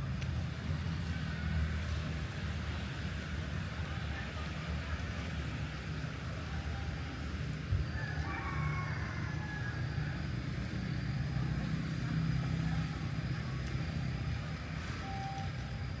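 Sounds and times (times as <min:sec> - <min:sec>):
low rumble of motor vehicle: 0:00.0 - 0:16.0.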